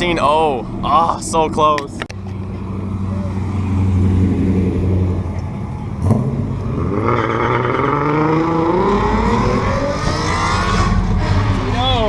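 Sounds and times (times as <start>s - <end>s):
truck engine accelerating: 2.1s - 12.0s.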